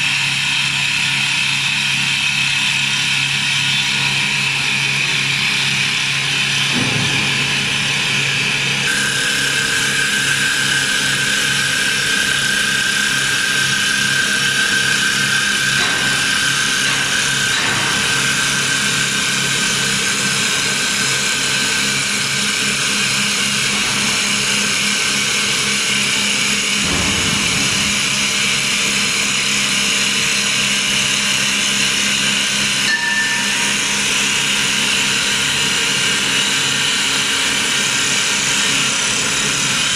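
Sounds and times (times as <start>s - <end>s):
wood lathe machining with whine: 0.0s - 6.8s, 7.8s - 26.9s, 27.8s - 39.9s.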